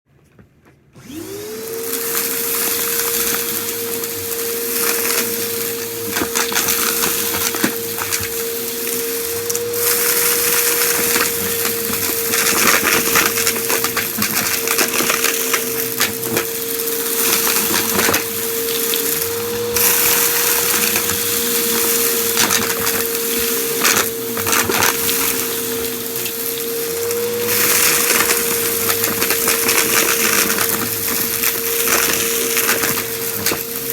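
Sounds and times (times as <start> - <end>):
vacuum cleaner motor whine: 0.9 - 33.9
debris rattling up nozzle: 1.8 - 33.9.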